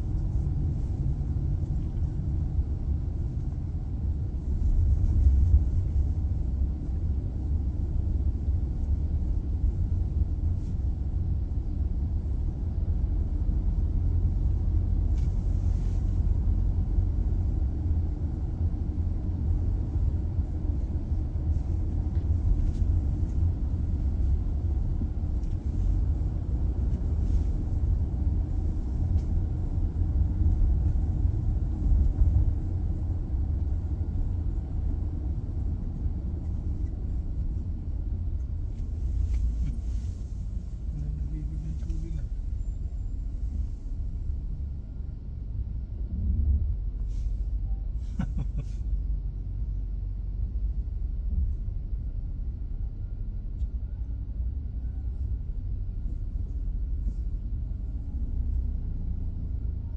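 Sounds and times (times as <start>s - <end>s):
car interior engine rumble: 0.0s - 59.9s.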